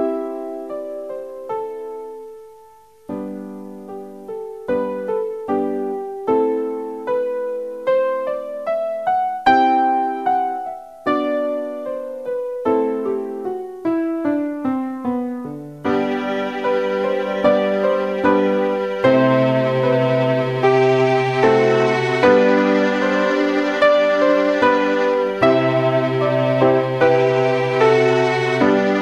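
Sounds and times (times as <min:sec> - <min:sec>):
piano music: 0:00.0 - 0:29.0
sustained backing layer: 0:00.0 - 0:29.0.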